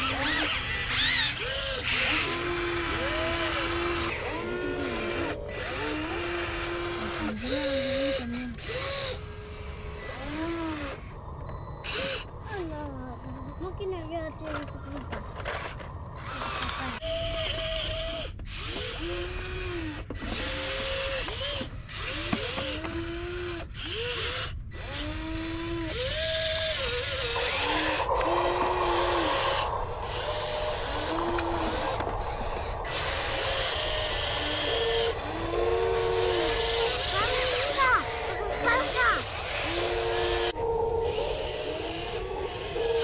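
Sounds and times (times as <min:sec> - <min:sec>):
gritty gear buzz: 0:00.0 - 0:12.6, 0:15.1 - 0:43.0
toy excavator motors whining: 0:00.0 - 0:43.0.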